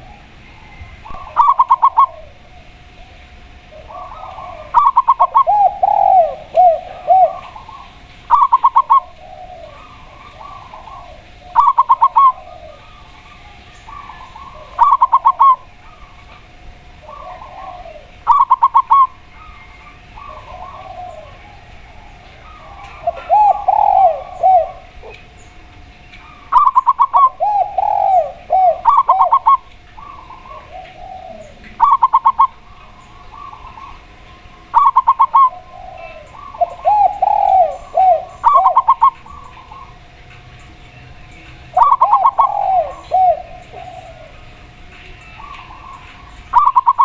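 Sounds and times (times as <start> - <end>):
doves cooing: 0.0 - 47.0
small birds chirping: 0.0 - 47.0.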